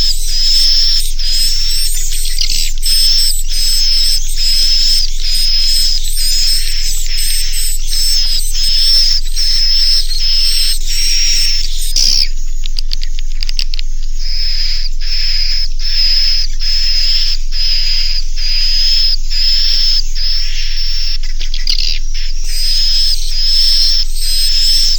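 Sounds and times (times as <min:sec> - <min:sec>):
buzzy high bird chirps: 0:00.0 - 0:24.9.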